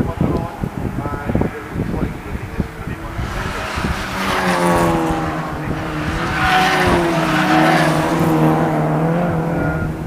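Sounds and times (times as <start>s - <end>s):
race car engines passing: 0.0s - 10.0s.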